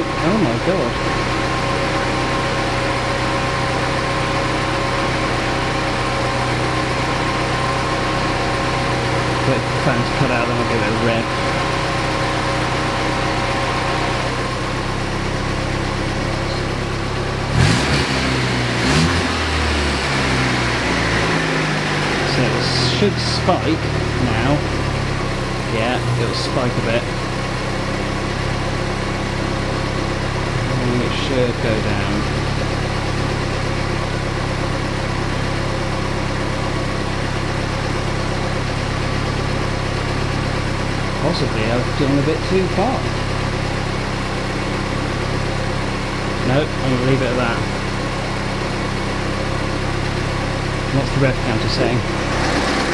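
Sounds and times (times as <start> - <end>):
car engine idling: 0.0 - 52.9
engine revving blips: 0.0 - 52.9.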